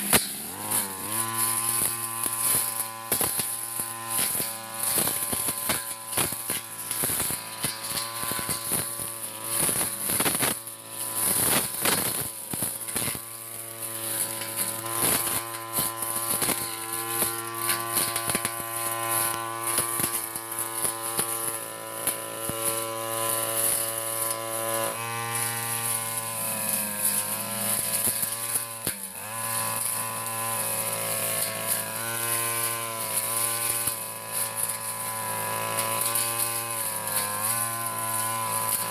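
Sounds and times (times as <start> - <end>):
brush cutter engine running: 0.0 - 38.9
cutting head striking grass: 0.0 - 38.9.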